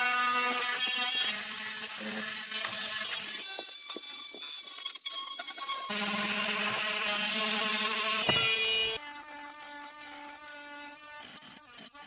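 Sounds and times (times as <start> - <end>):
oscillating multi-tool cutting: 0.0 - 12.0.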